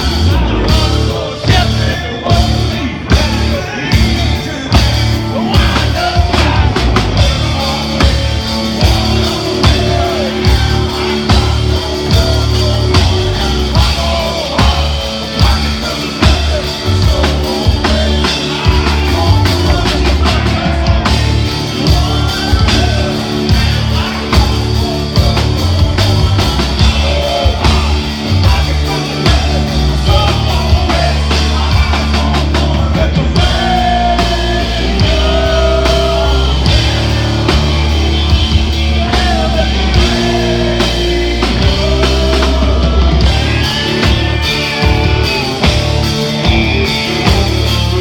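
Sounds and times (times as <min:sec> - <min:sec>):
drums: 0:00.0 - 0:48.0
electric guitars: 0:00.0 - 0:48.0
man singing: 0:00.0 - 0:48.0.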